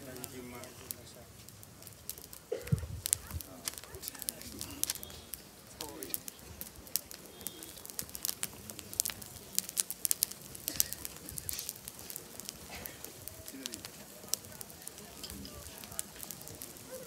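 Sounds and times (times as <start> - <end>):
bonfire crackling: 0.0 - 17.0
sharp pops: 0.2 - 17.0.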